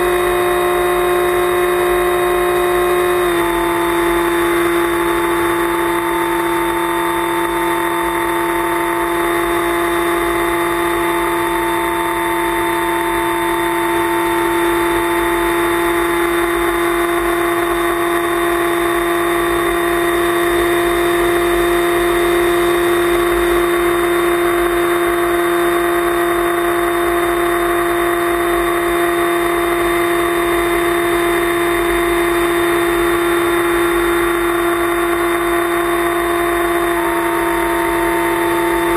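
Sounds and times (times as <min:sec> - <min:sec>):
electric motor propeller whine: 0:00.0 - 0:38.9.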